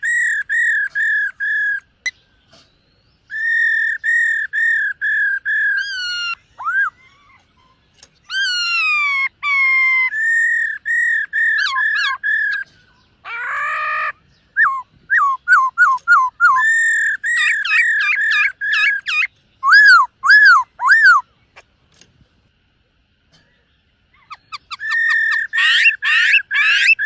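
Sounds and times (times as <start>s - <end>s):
bird whistled song: 0.0s - 21.6s, 23.4s - 27.0s.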